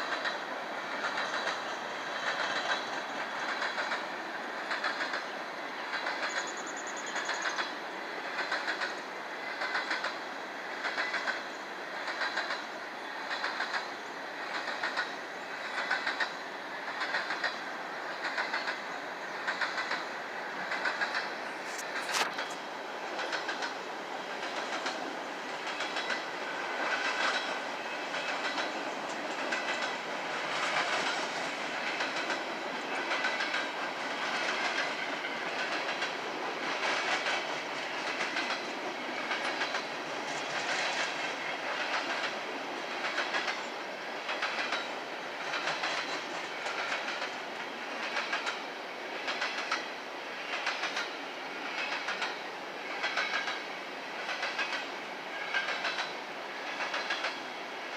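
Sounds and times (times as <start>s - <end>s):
freight train rumble: 0.0s - 57.9s
train wheels clicking over rail joints: 0.0s - 57.9s.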